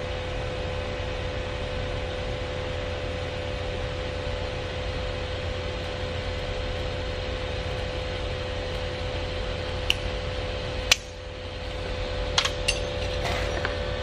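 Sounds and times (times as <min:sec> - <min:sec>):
welding arc hissing and humming: 0:00.0 - 0:14.0.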